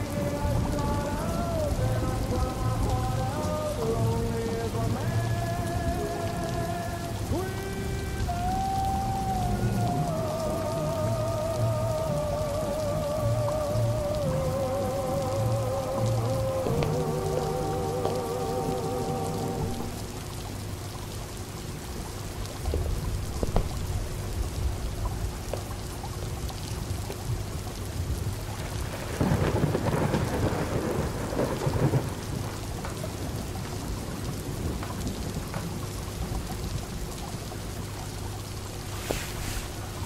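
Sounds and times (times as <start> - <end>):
rain pattering: 0.0 - 40.0
thunder rumble: 0.0 - 40.0.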